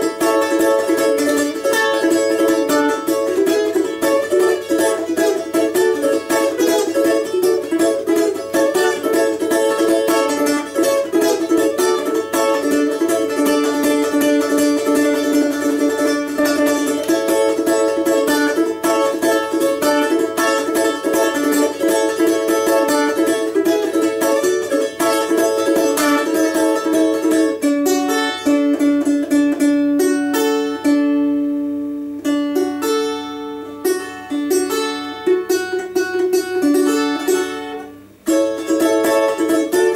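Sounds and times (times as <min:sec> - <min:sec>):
balalaika strumming: 0:00.0 - 0:39.9.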